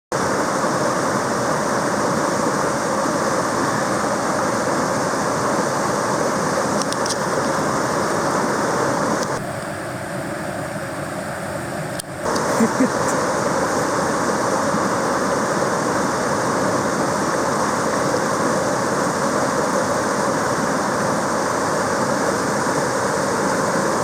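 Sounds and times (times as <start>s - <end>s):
mountain stream rushing: 0.1s - 24.0s.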